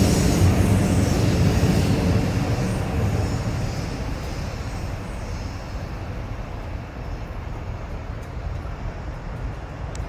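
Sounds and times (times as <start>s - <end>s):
bullet train running: 0.0s - 10.0s
low train rumble: 0.0s - 10.0s.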